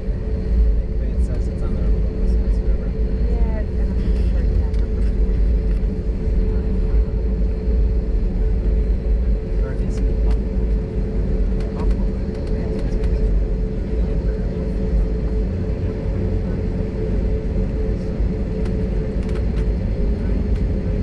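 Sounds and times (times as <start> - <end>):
aircraft engine hum: 0.0 - 21.0
plane rolling rumble: 0.0 - 21.0.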